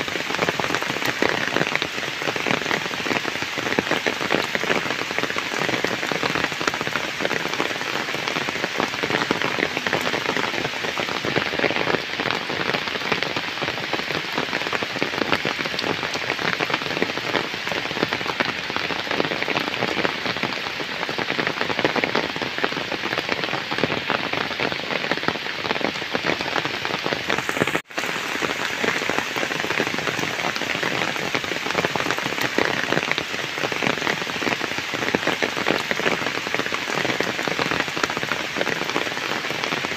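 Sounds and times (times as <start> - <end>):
heavy rain on puddles: 0.0 - 39.9.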